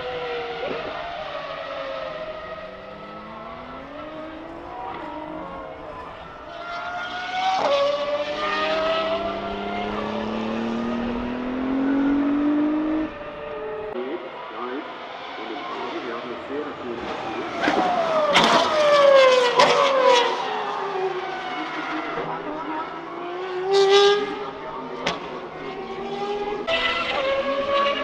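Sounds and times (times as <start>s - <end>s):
race car passing by: 0.0s - 28.0s
race cars revving high: 0.0s - 28.0s.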